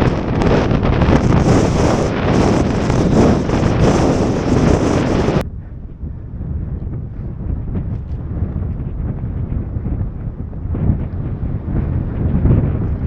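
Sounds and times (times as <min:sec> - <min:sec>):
blizzard wind buffeting microphone: 0:00.0 - 0:13.0
low rumble: 0:00.0 - 0:13.0.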